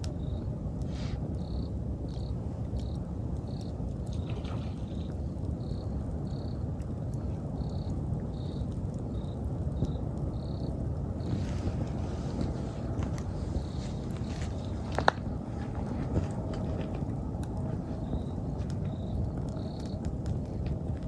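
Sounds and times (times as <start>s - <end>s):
campfire crackling and popping: 0.0s - 21.0s
insect chirping: 0.1s - 21.0s.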